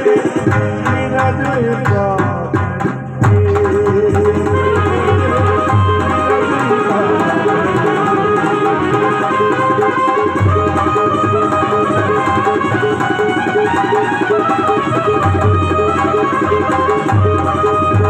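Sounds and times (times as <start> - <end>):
harmonium chords: 0.0 - 18.0.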